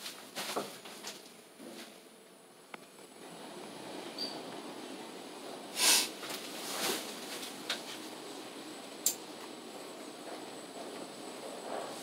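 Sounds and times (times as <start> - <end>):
elevator hum: 2.2 - 12.0.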